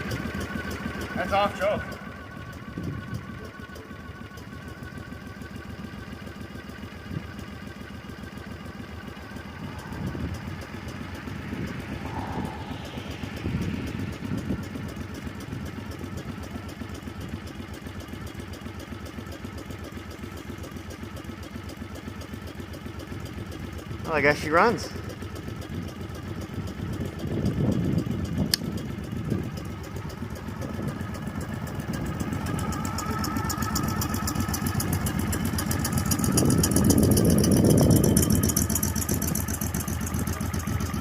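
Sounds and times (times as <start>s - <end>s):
minibike engine idling: 0.0s - 41.0s.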